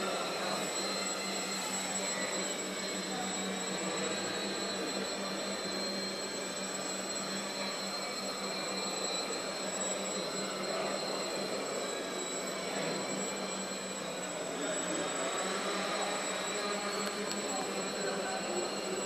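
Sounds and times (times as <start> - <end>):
drone motors whirring: 0.0 - 19.0
high-pitched whine: 0.0 - 19.0.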